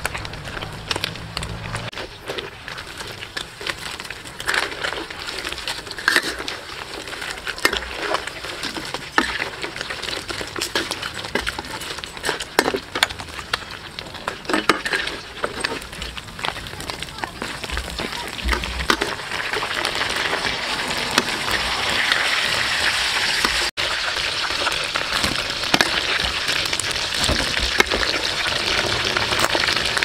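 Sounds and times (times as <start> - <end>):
crabs sizzling in hot oil: 0.0 - 30.0
metal spatula scraping wok: 0.0 - 30.0.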